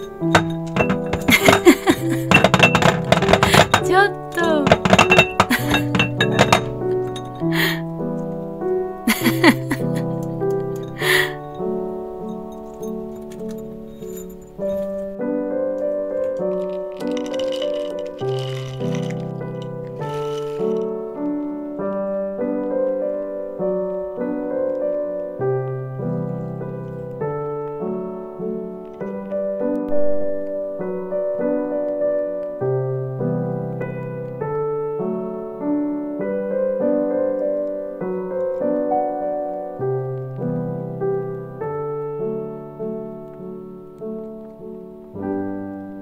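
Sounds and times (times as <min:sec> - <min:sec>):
gentle piano music: 0:00.0 - 0:46.0.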